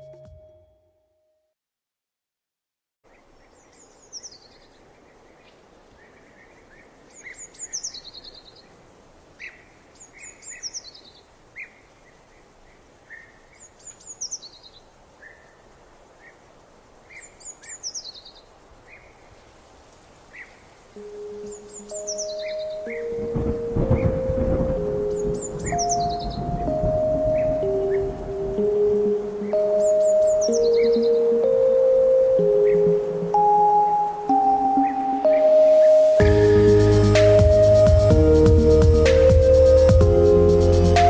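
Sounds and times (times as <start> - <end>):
background hiss: 3.0 - 41.0
birds singing: 3.1 - 19.4, 20.3 - 38.0.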